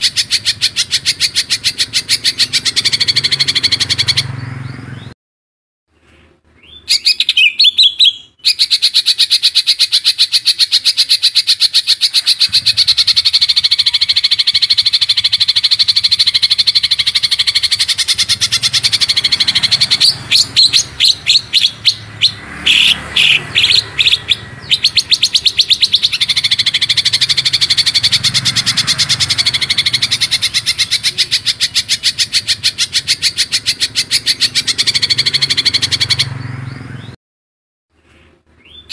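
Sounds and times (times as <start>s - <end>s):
songbird fast rolling trill: 0.0s - 4.4s, 6.7s - 36.6s.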